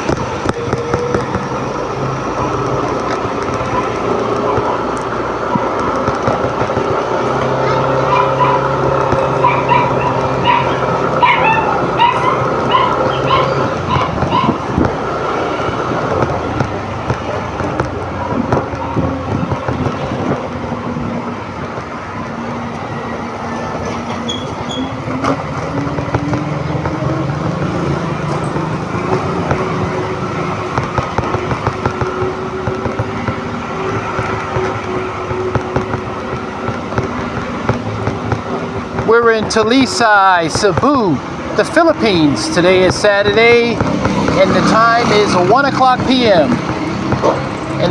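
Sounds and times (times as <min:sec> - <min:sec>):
wind noise on microphone: 0:00.0 - 0:39.1
scooter engine running: 0:00.0 - 0:47.9.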